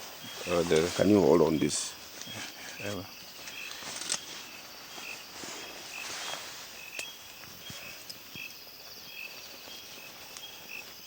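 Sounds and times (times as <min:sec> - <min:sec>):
faint insect trill: 0:00.0 - 0:11.0.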